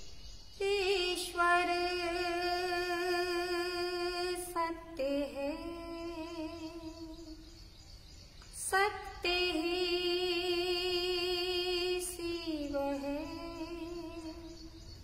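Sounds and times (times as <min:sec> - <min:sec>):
woman singing unaccompanied: 0:00.6 - 0:07.6, 0:08.5 - 0:14.9.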